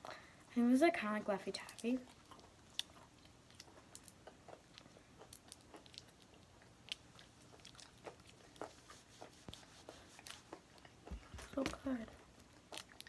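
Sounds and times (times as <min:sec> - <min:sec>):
faint chewing mouth clicks: 0:01.6 - 0:13.0.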